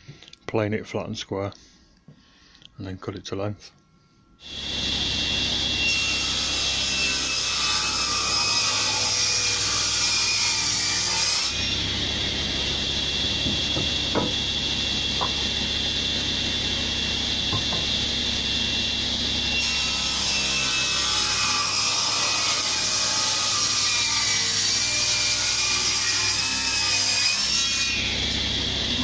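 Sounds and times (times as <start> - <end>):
table saw running: 4.4 - 29.0.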